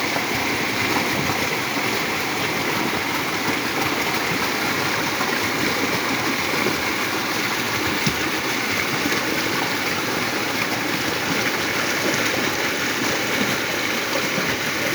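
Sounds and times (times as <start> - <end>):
flooded creek rushing: 0.0 - 14.9.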